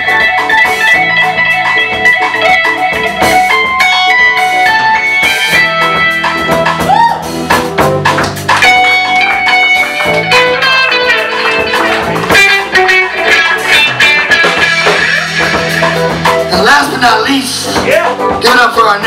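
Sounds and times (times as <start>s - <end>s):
bass: 0.0s - 19.0s
drum kit: 0.0s - 19.0s
electric guitar lead: 0.0s - 19.0s
keyboard: 0.0s - 19.0s.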